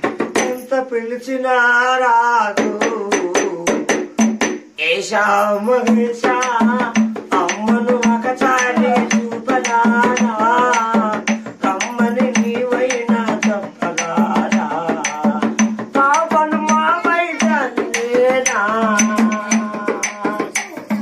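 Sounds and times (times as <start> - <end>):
hand percussion tapping beat: 0.0 - 0.8, 2.5 - 21.0
man singing a folk song: 0.4 - 4.0, 4.8 - 20.7.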